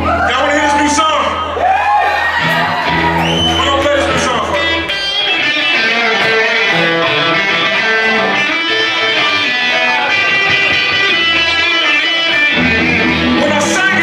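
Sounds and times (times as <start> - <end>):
electric guitar picked and strummed: 2.3 - 14.0
live band playing: 2.3 - 14.0.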